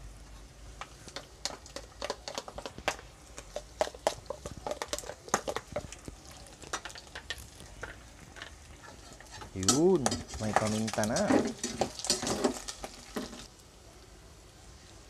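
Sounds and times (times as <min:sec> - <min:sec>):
pork sizzling with crackles: 0:00.0 - 0:15.0.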